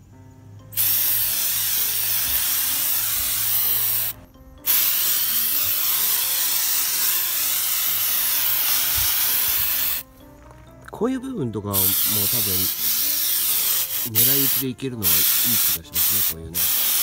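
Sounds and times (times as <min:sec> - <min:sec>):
aerosol can spraying: 0:00.7 - 0:10.1, 0:11.7 - 0:17.0.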